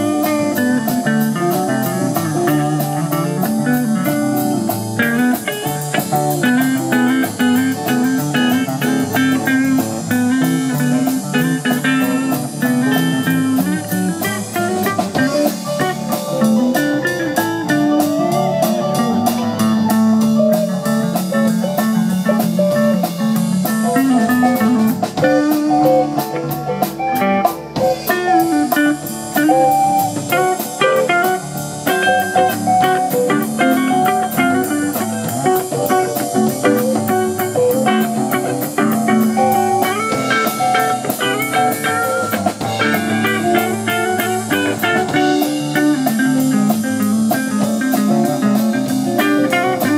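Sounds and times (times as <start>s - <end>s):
drum kit with cymbals: 0.0s - 49.9s
electric lead guitar: 0.0s - 49.9s
rhythm guitar: 0.0s - 49.9s.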